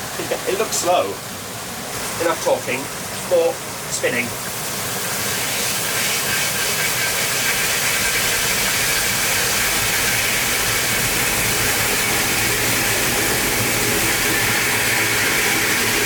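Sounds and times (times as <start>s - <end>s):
water jet rushing on turbine: 0.0s - 16.0s.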